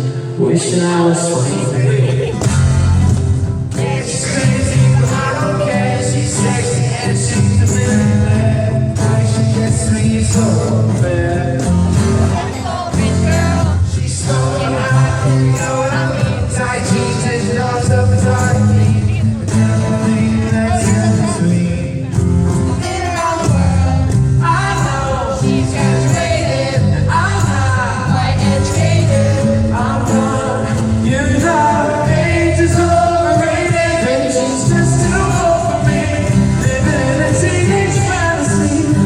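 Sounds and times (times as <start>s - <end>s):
live pop-rock band: 0.0s - 39.0s
person singing: 3.7s - 39.0s.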